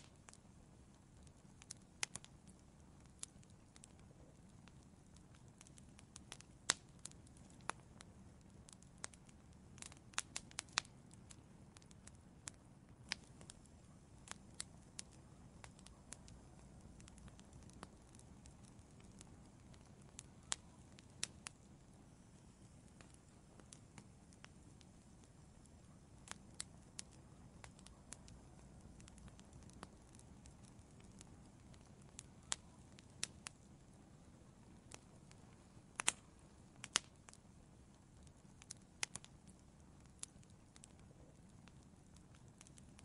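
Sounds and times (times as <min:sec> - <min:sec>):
burning wood crackling and popping: 0:00.0 - 0:43.0
faint low hiss: 0:00.0 - 0:43.0.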